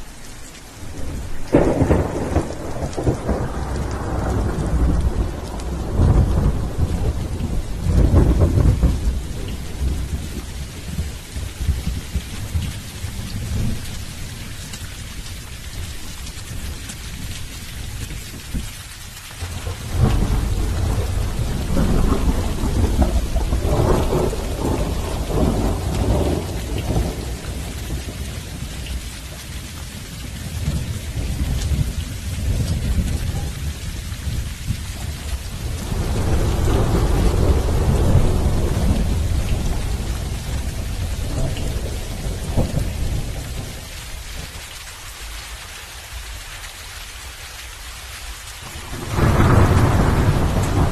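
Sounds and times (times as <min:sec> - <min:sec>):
heavy rain falling: 0:00.0 - 0:50.9
thunder rumbling: 0:00.8 - 0:14.6, 0:19.4 - 0:44.6, 0:48.6 - 0:50.9.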